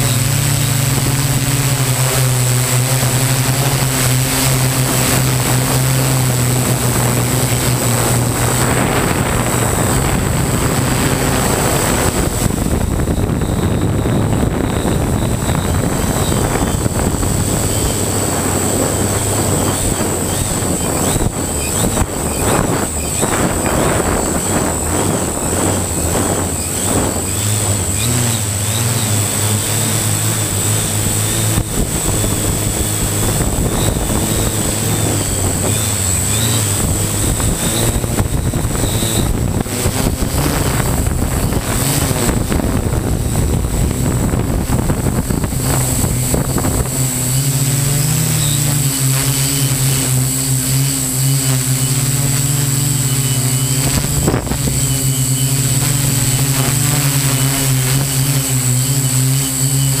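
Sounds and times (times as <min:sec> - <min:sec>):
drone propellers humming: 0:00.0 - 1:00.0
rushing noise: 0:00.0 - 1:00.0.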